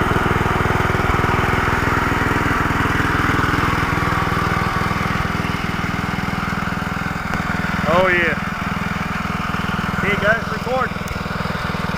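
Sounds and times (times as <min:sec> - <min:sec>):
small mower engine running: 0:00.0 - 0:11.9.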